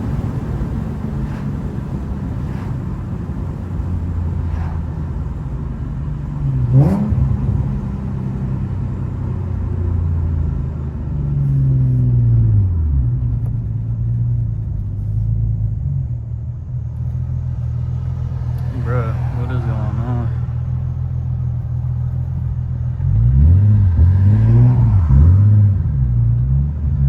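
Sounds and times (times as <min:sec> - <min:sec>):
car engine while driving: 0:00.0 - 0:27.0
road noise: 0:00.0 - 0:27.0.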